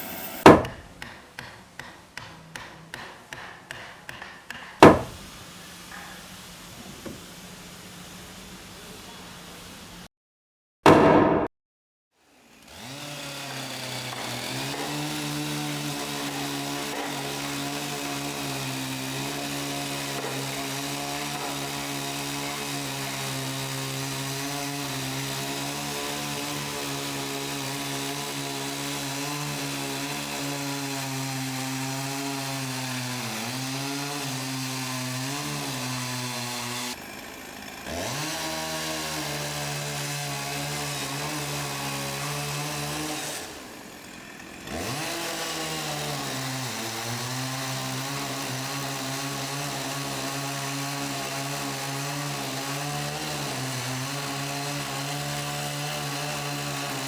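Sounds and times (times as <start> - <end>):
motor saw cutting wood: 0.0 - 7.2, 12.3 - 57.0.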